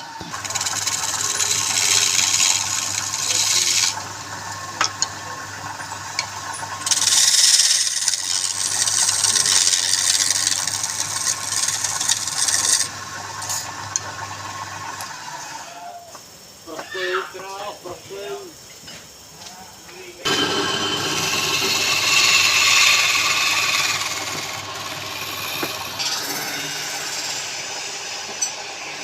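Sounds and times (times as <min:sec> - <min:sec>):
wood spinning on a lathe: 0:00.0 - 0:15.7, 0:20.2 - 0:29.0.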